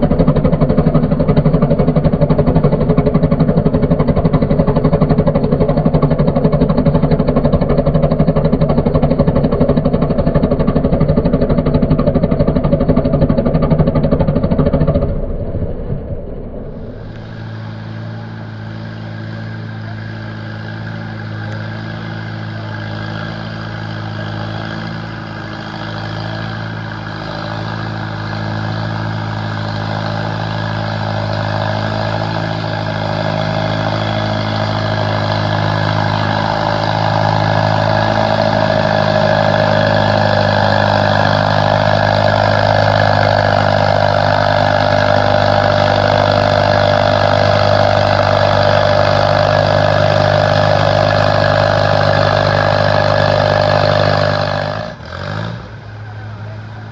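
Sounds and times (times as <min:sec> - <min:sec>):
tractor engine running hard: 0:00.0 - 0:56.9.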